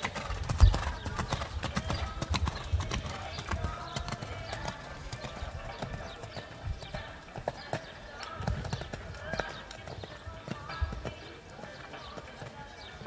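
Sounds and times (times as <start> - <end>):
horse hoofbeats on wet sand: 0.0 - 13.0.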